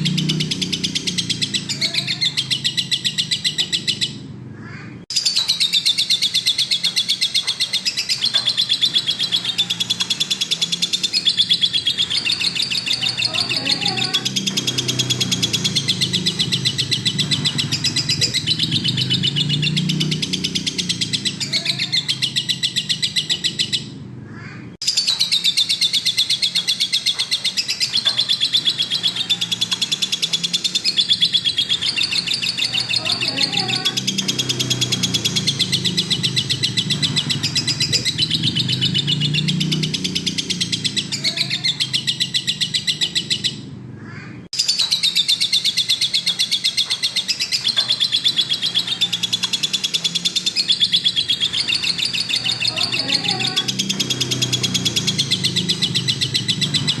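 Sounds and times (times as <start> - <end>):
bird chirping and chattering: 0.0 - 57.0.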